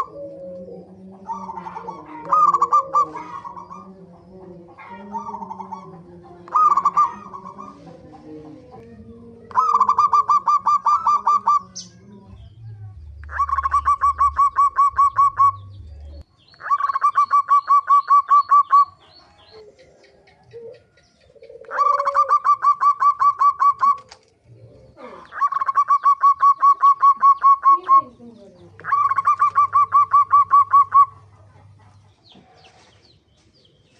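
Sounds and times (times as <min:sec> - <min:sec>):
dove cooing: 0:00.0 - 0:32.9.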